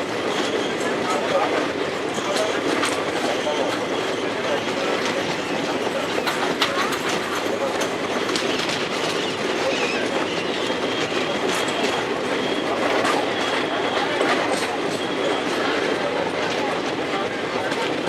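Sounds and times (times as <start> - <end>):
train rumble and rattle: 0.0 - 18.0
wheels clicking over track: 0.4 - 18.0.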